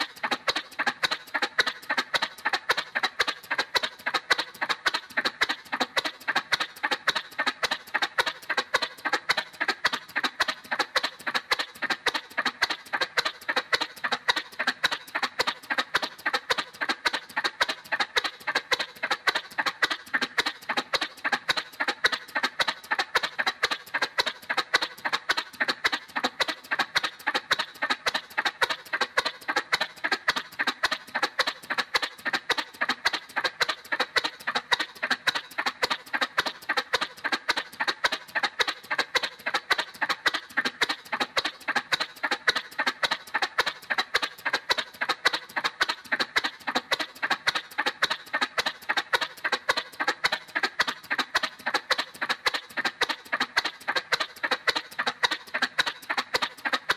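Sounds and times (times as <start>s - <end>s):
cartoon motorcycle engine putt-putt: 0.0s - 56.9s.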